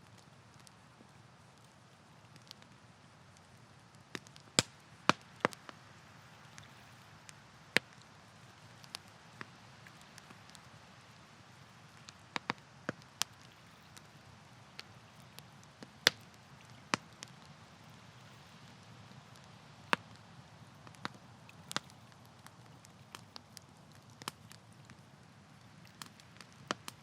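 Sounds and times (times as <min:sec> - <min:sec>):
campfire crackling and popping: 0:00.0 - 0:27.0
soft steady hiss: 0:00.0 - 0:27.0.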